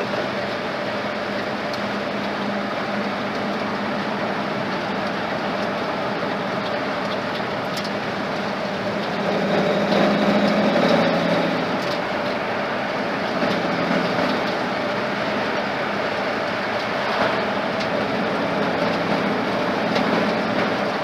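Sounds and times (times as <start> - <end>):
road noise: 0.0 - 21.0
truck engine running: 0.0 - 21.0.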